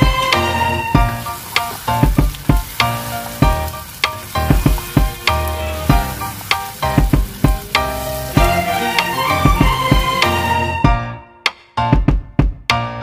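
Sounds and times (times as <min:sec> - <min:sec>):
food sizzling in a saucepan: 0:00.0 - 0:10.9.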